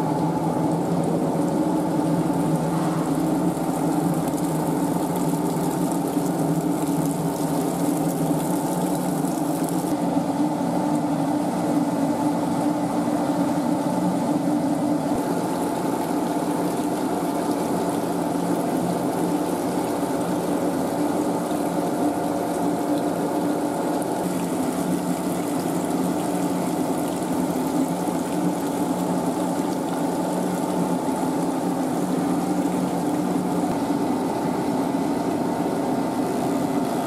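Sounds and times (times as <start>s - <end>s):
water running from hoses: 0.0s - 10.0s, 15.0s - 37.0s.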